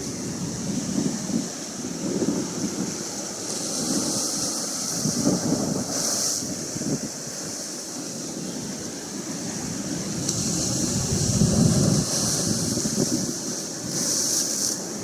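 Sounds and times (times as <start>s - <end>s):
ocean surf washing in: 0.0s - 15.0s
wind blowing across microphone: 0.0s - 15.0s.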